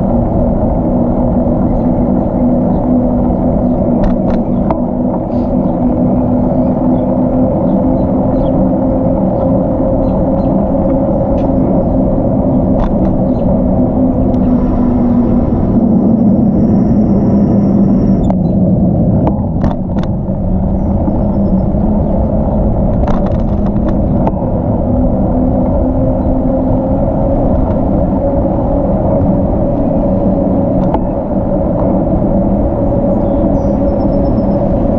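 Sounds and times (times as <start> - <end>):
bicycle tyres rumbling on trail: 0.0 - 34.9
wind noise: 0.0 - 34.9.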